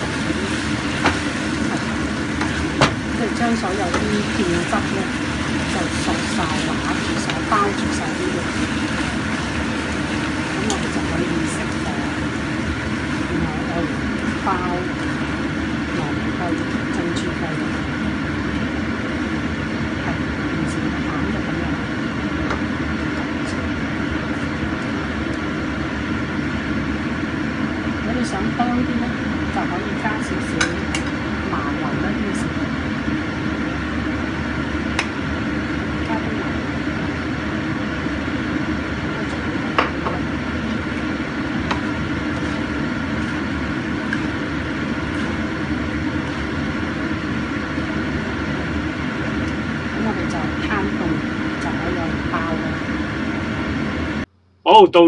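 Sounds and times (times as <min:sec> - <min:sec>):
food cooking in a wok: 0:00.0 - 0:54.2.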